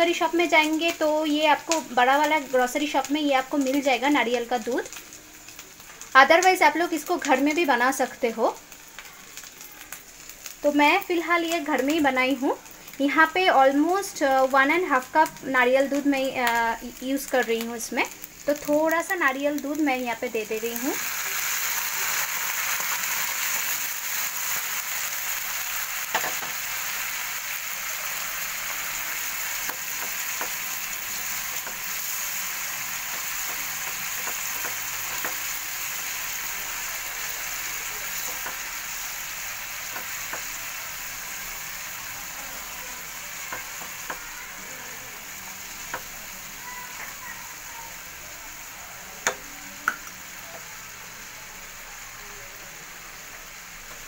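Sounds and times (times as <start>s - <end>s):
liquid sizzling in frying pan: 0.0s - 54.0s.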